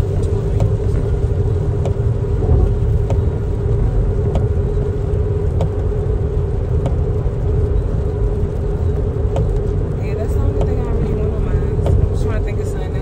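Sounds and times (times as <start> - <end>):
car road rumble: 0.0 - 13.0
constant hum: 0.0 - 13.0.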